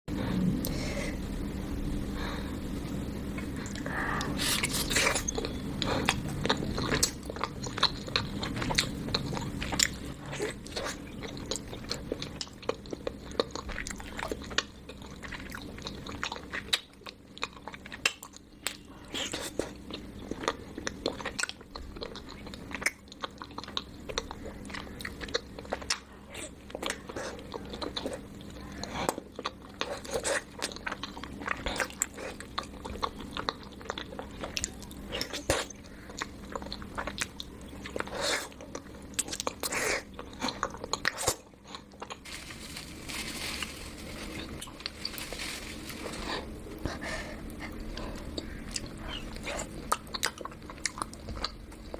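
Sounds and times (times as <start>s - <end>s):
chewing and crunching: 3.3s - 51.9s.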